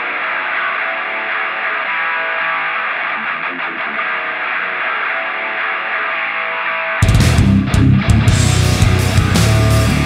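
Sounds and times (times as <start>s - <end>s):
muffled rock music: 0.0s - 10.0s.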